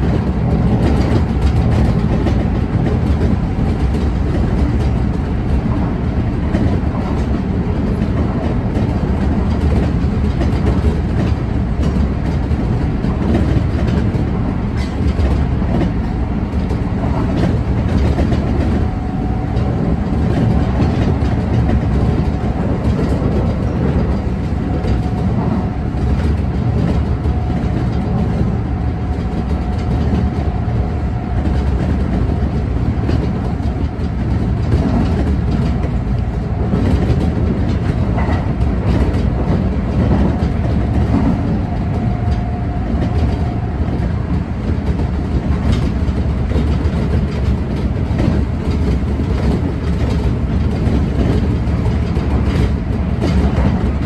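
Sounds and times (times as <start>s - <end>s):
track clatter: 0.0s - 54.0s
train wheels rumbling on rail: 0.0s - 54.0s.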